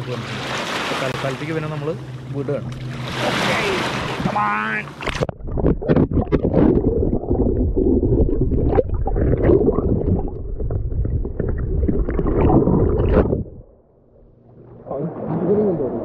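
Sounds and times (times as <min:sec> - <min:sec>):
muffled underwater sloshing: 0:00.0 - 0:16.0.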